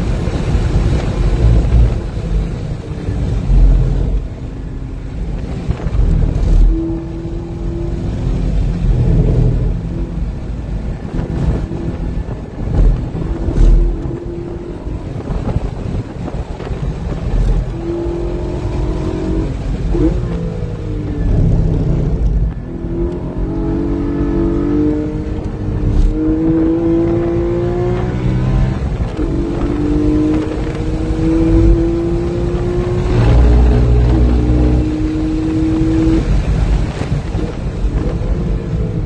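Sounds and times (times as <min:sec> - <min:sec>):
low road rumble: 0:00.0 - 0:39.0
sports car engine revving: 0:05.4 - 0:36.8.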